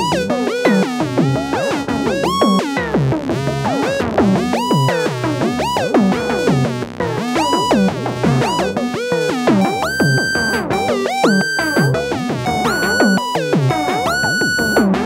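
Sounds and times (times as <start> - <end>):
sequenced synthesizer pattern: 0.0 - 15.0.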